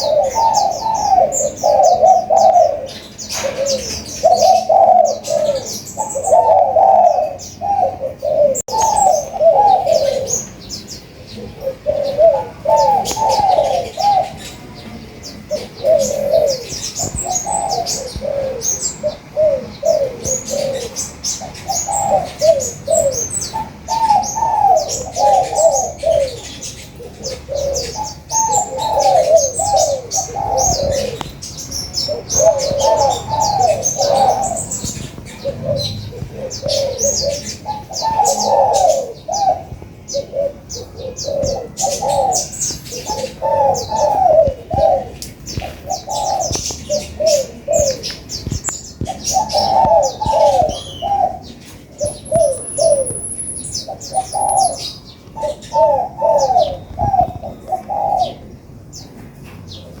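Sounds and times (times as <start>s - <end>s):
doves cooing: 0.0s - 60.0s
small birds chirping: 0.0s - 60.0s.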